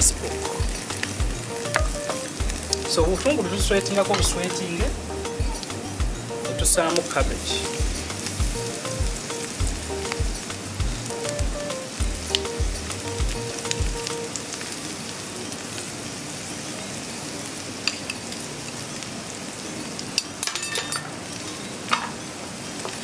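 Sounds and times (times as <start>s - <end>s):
cabbage sizzling in hot oil: 0.0s - 23.0s.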